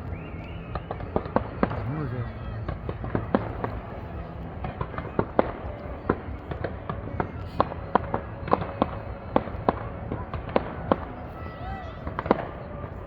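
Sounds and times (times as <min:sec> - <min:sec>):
fireworks popping and cracking: 0:00.2 - 0:13.0.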